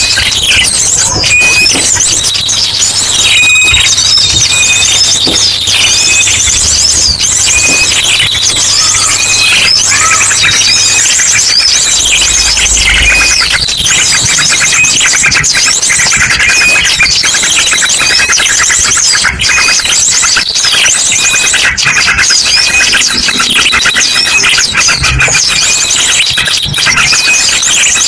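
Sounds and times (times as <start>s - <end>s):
drongo calls: 0.0s - 28.0s
small birds chirping and trilling: 0.0s - 28.0s.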